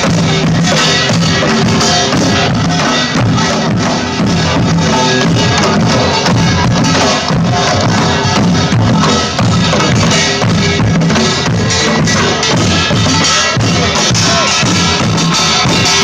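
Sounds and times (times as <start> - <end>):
drum kit beat: 0.0 - 16.0
loud live band music: 0.0 - 16.0.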